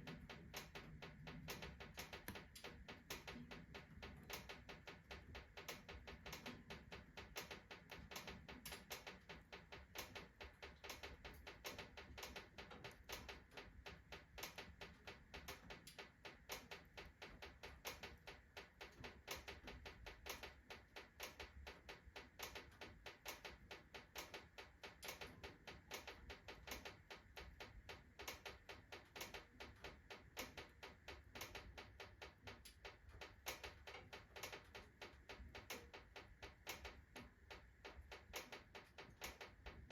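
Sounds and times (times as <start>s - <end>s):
stove iron ticking: 0.0s - 39.9s
wood crackling in a stove: 0.0s - 39.9s.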